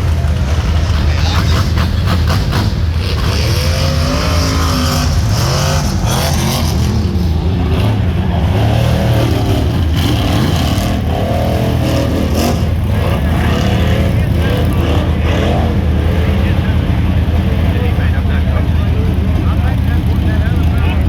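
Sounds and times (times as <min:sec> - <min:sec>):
buggy engine revving hard: 0:00.0 - 0:21.0.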